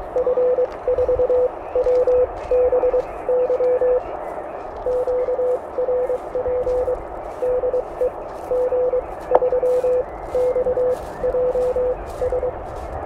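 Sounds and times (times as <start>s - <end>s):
morse code tone: 0.0s - 12.9s
radio hiss: 0.0s - 13.0s.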